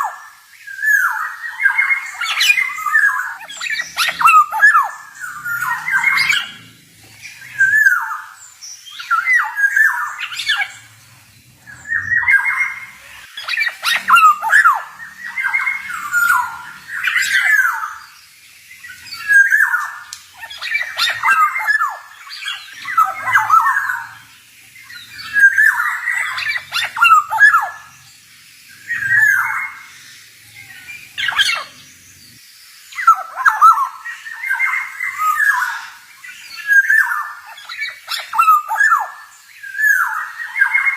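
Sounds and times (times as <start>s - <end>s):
bird singing whistled phrases: 0.0s - 6.6s, 7.3s - 10.9s, 11.6s - 24.2s, 24.8s - 28.0s, 28.7s - 31.8s, 33.0s - 40.9s.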